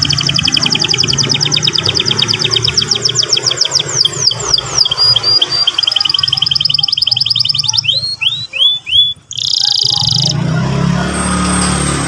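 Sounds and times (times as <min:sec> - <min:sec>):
canary singing trills: 0:00.0 - 0:10.6.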